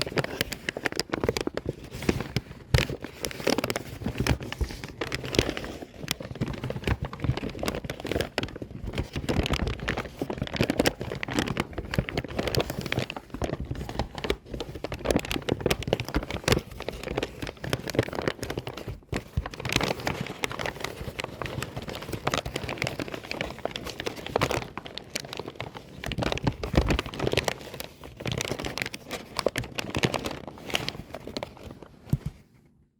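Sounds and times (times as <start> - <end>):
paper bag crumpling: 0.0 - 32.2.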